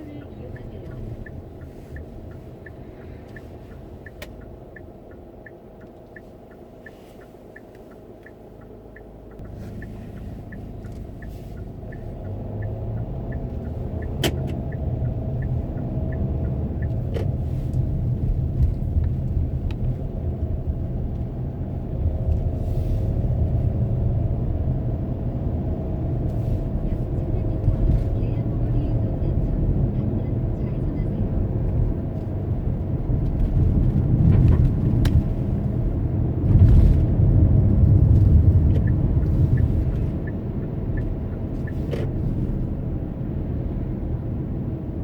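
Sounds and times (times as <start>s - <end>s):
car engine and road rumble: 0.0s - 45.0s
turn signal ticking: 0.0s - 45.0s.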